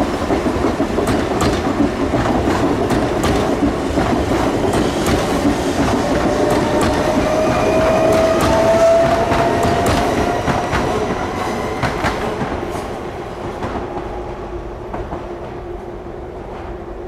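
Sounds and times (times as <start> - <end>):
electric train passing: 0.0 - 17.0
train whine: 0.0 - 17.0.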